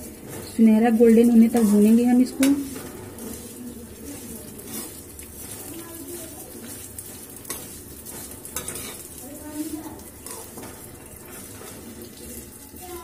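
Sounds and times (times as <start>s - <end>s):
metal ladle scraping a pan: 0.0s - 12.0s
vermicelli sizzling in hot oil: 0.0s - 13.0s.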